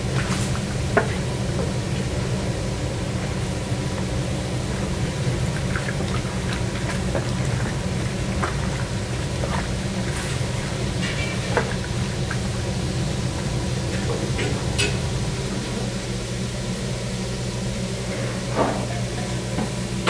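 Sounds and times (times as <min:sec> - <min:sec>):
kitchen equipment hum and hiss: 0:00.0 - 0:20.0.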